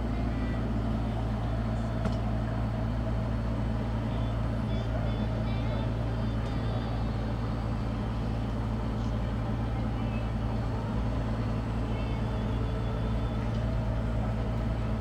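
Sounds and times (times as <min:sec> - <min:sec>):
boat diesel engine droning: 0:00.0 - 0:15.0.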